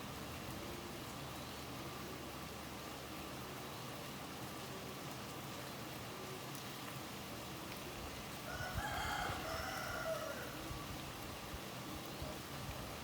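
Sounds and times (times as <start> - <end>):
rain: 0.0 - 13.0
wind in trees: 0.0 - 13.0.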